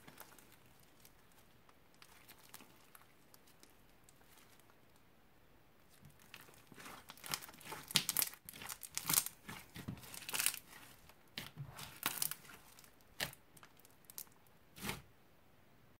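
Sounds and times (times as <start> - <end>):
crunchy slime crackling: 0.0 - 4.8, 5.9 - 15.1.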